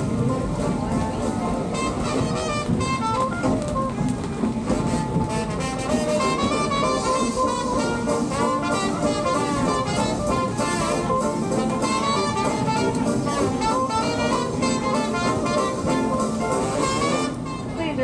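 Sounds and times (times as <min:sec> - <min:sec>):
up-tempo jazz music: 0:00.0 - 0:18.0.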